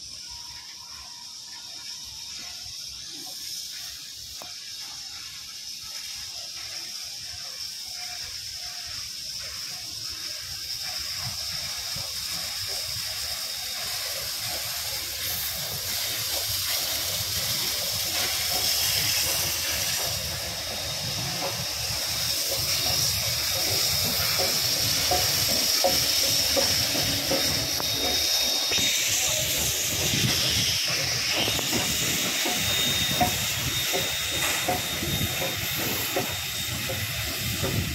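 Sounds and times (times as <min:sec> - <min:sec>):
low rumble of train: 0:00.0 - 0:37.9
steam locomotives hissing: 0:00.0 - 0:37.9.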